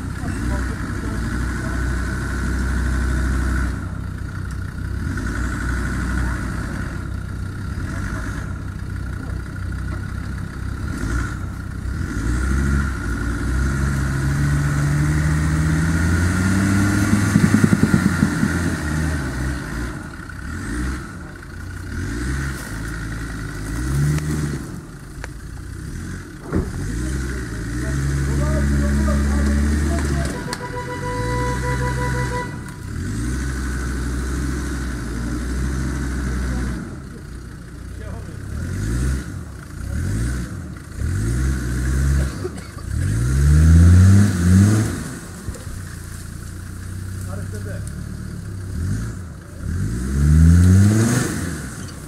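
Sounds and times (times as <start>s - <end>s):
engine revving: 0.0s - 52.0s.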